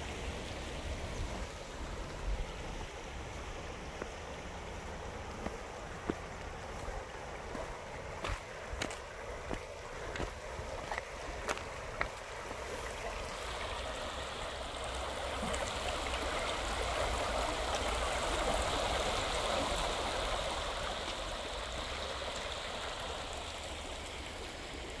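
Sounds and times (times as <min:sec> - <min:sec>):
river water rippling over stones: 0:00.0 - 0:25.0.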